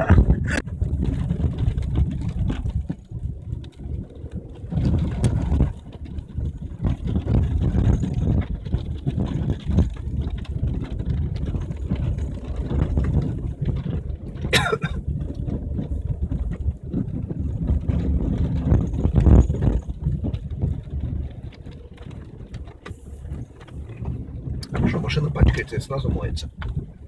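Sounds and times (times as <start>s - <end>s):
engine and tyre rumble: 0.0s - 27.0s.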